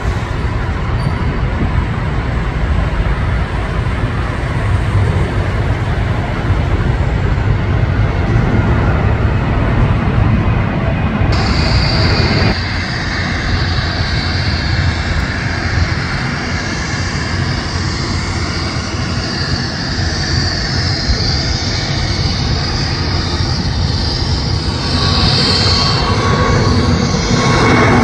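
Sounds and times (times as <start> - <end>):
jet airliner taking off: 0.0 - 28.0
loud jet engine noise: 0.0 - 28.0.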